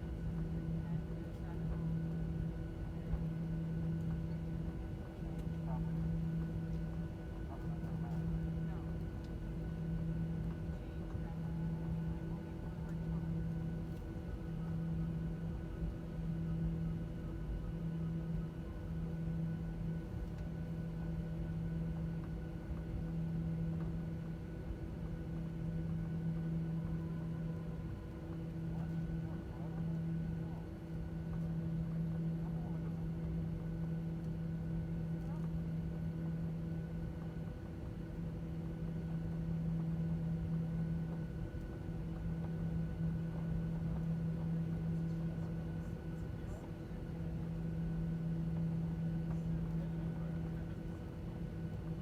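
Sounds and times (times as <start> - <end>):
aircraft cabin hum: 0.0 - 52.0.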